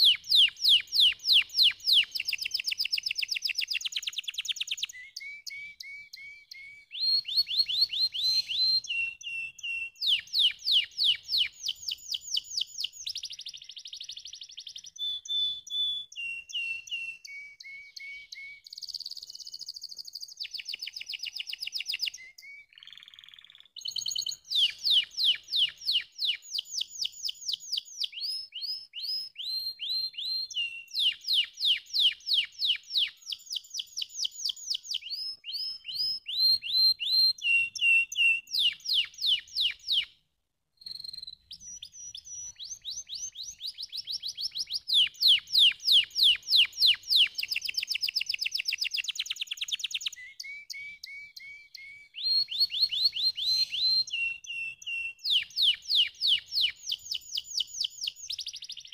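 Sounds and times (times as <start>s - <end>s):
canary singing trills: 0.0s - 40.1s, 40.8s - 58.9s.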